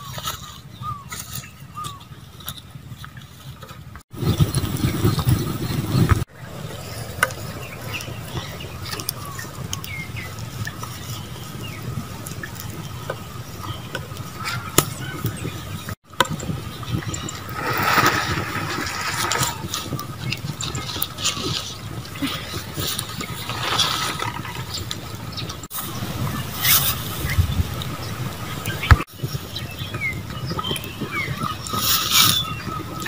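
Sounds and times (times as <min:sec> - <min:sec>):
fire crackling and hissing: 0:02.4 - 0:33.0.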